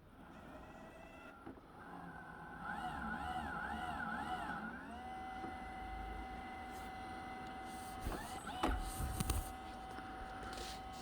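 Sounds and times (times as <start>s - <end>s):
robot vacuum motors whining: 0.2s - 11.0s.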